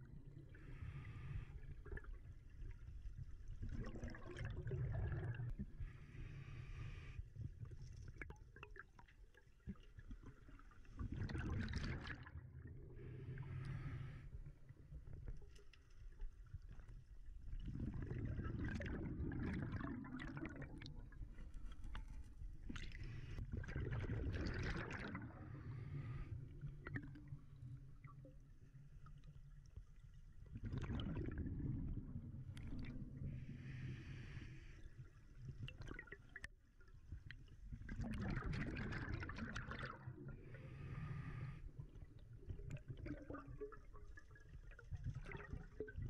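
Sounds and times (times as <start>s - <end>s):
exhaled bubbles gurgling underwater: 0.0s - 46.0s.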